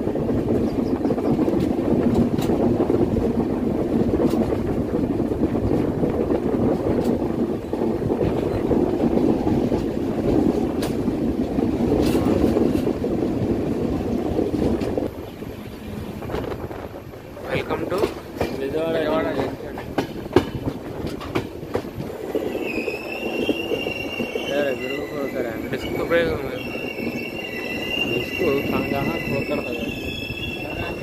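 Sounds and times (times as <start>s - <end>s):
train wheels rumbling on rails: 0.0s - 31.0s
wind rushing on microphone: 0.0s - 31.0s.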